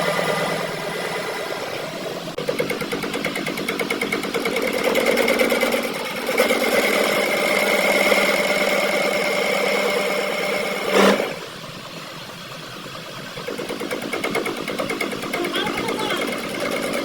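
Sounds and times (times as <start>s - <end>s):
workshop machine whining and chattering: 0.0s - 17.0s.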